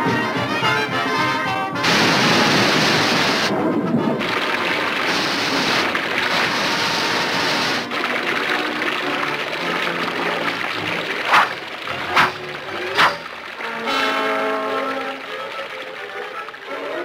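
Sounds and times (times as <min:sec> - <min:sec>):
brass orchestral music: 0:00.0 - 0:17.0
water gushing: 0:01.8 - 0:17.0.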